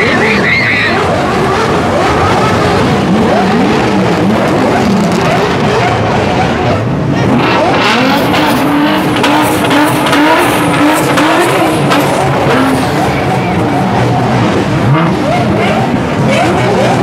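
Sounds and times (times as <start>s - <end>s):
supercar engines revving: 0.0s - 17.0s.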